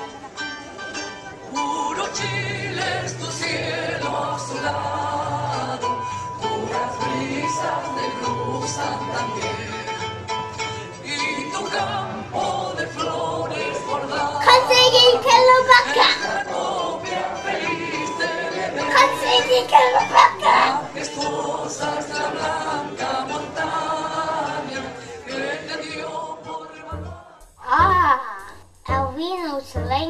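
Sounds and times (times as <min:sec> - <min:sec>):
music with singing voices: 0:00.0 - 0:30.0.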